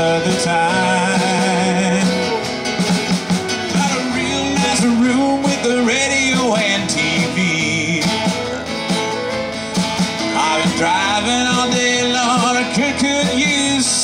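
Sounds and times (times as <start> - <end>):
acoustic guitar: 0.0 - 14.0
drums: 0.0 - 14.0
fiddle: 0.0 - 14.0
pedal steel guitar: 0.0 - 14.0
upright bass: 0.0 - 14.0.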